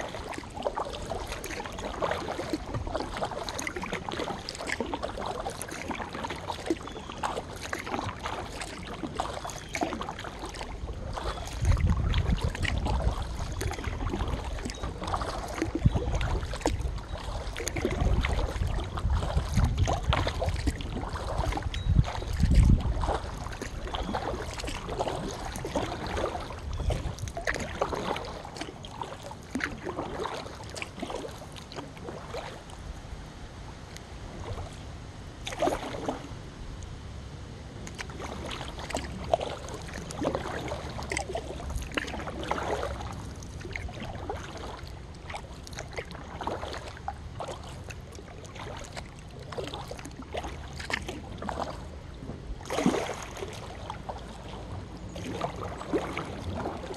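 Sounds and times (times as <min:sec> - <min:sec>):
paddle splashing in water: 0:00.0 - 0:33.0, 0:33.7 - 0:36.4, 0:37.7 - 0:56.9.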